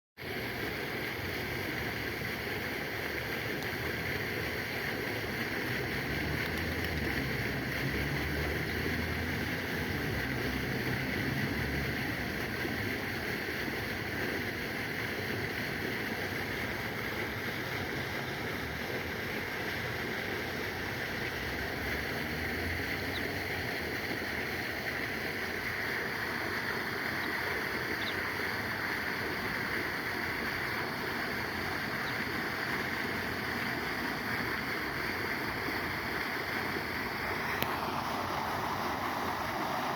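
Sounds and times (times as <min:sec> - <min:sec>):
water rushing: 0:00.2 - 0:39.9.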